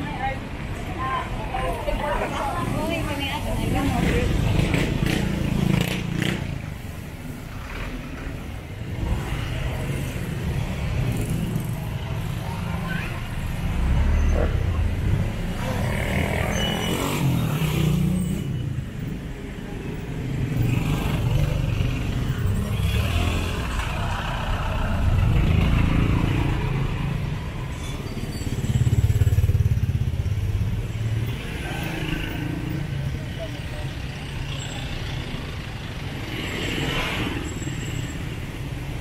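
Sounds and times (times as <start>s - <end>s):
street traffic passing: 0.0s - 39.0s.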